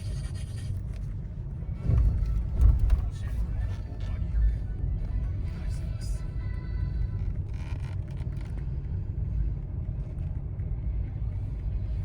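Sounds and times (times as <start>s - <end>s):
car road and tyre noise: 0.0s - 12.0s.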